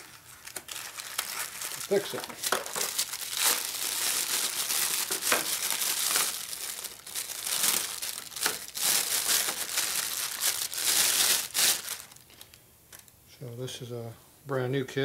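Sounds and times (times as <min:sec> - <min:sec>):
packaging crinkling and rustling: 0:00.0 - 0:13.1.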